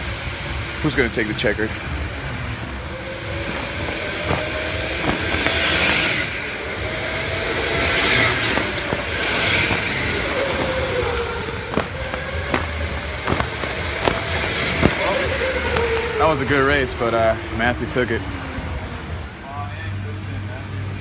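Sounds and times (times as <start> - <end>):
electric go-karts driving past: 0.0 - 21.0.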